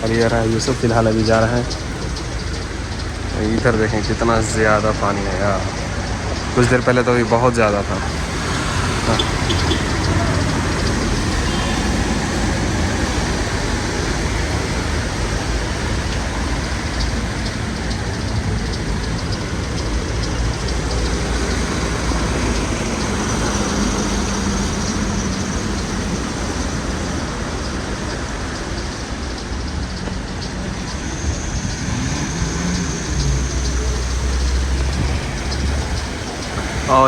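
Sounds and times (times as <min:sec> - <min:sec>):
engine hum: 0:00.0 - 0:37.0
road traffic noise: 0:00.0 - 0:37.0.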